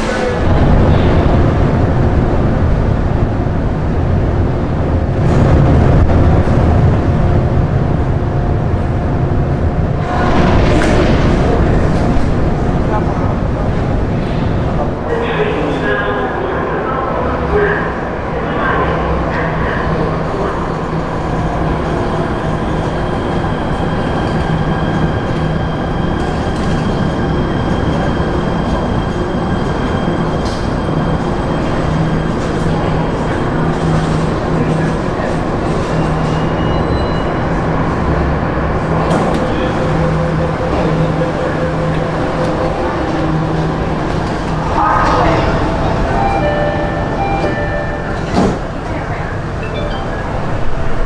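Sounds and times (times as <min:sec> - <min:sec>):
metro station rumble and hum: 0:00.0 - 0:51.0.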